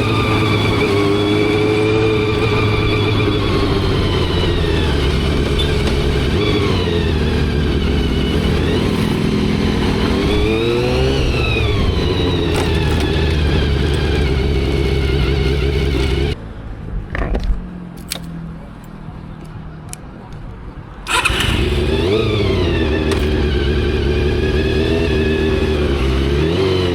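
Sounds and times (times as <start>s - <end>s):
motorcycle engine revving: 0.0s - 16.4s, 21.1s - 26.9s
wind and road noise: 0.0s - 26.9s.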